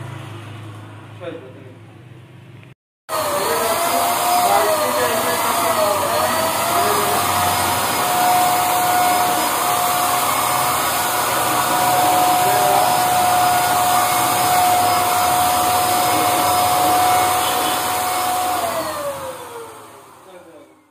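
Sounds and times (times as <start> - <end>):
paint spray gun motor whine: 3.1 - 20.7.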